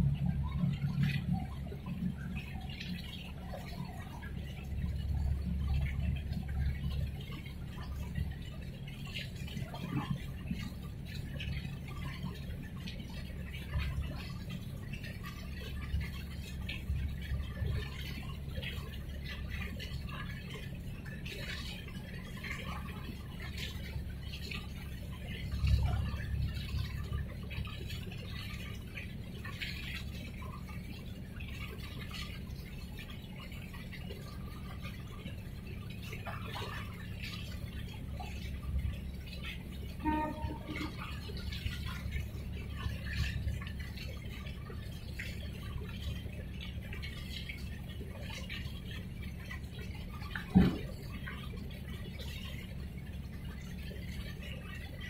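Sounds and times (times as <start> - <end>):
small waves lapping and splashing: 0.0 - 55.0
steady low rumble: 0.0 - 55.0
water drips and slaps: 0.0 - 55.0.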